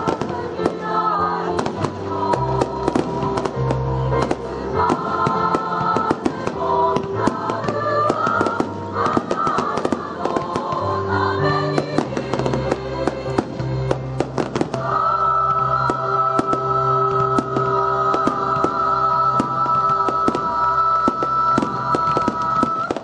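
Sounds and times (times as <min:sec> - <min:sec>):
choir singing held chords: 0:00.0 - 0:23.0
fireworks crackling and popping: 0:00.0 - 0:23.0.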